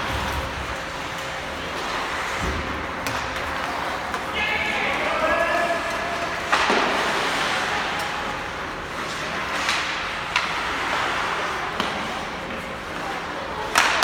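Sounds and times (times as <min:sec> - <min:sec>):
skates scraping ice: 0:00.0 - 0:14.0
hockey sticks and puck clacking: 0:00.3 - 0:14.0.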